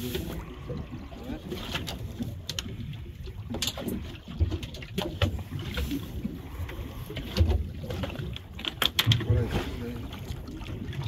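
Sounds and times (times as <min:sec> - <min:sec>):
water slapping boat hull: 0:00.0 - 0:11.0.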